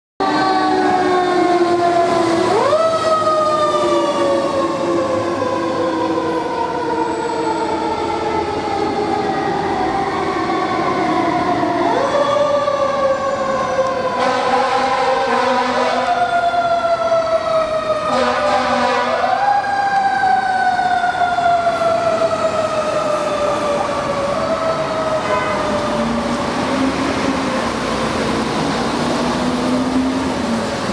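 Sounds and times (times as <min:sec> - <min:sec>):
fire engine siren: 0:00.2 - 0:30.9.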